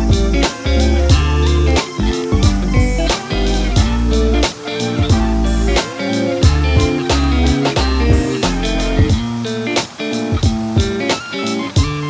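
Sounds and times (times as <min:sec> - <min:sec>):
guitar-led instrumental music: 0:00.0 - 0:12.0.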